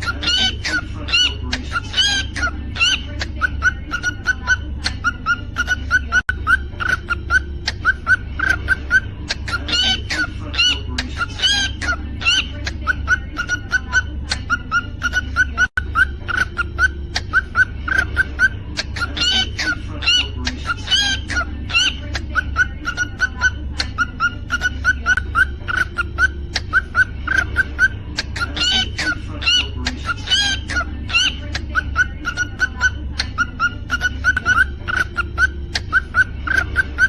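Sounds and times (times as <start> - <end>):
cockatiel chirping: 0.0 - 37.0
cockatiel whistled song: 0.0 - 37.0
steady low hum: 0.0 - 37.0.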